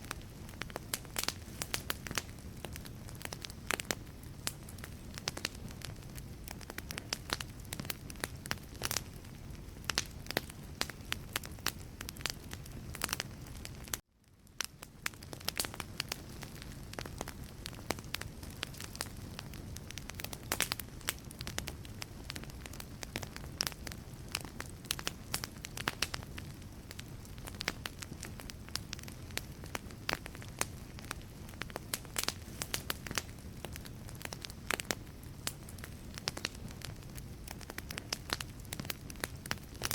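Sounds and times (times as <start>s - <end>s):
low rush of flame: 0.0s - 39.9s
wood fire crackling and popping: 0.0s - 39.9s.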